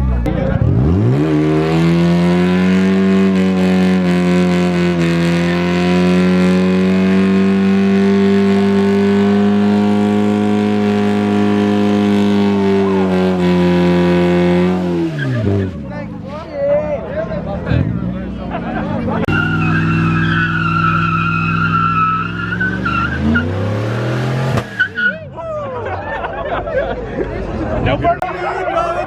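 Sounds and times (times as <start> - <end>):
car engine revving: 0.0 - 16.1, 17.6 - 25.1.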